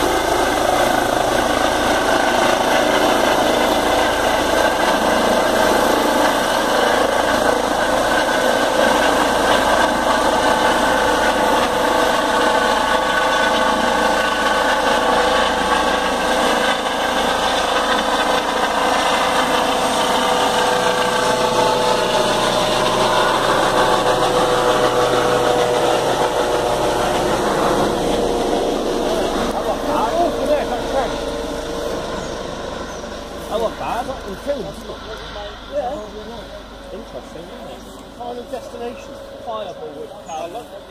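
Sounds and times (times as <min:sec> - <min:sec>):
helicopter flying overhead: 0:00.0 - 0:40.9.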